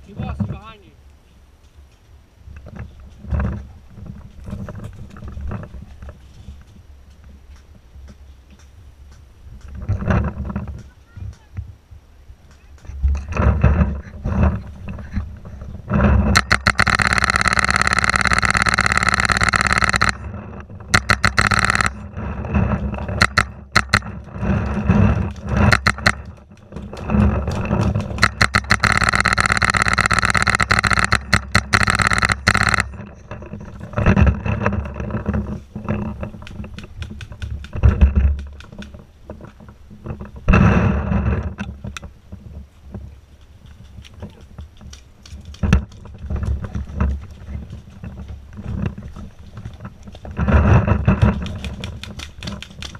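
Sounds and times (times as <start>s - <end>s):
brush scraping and rustling: 0.0s - 11.8s, 12.4s - 52.9s.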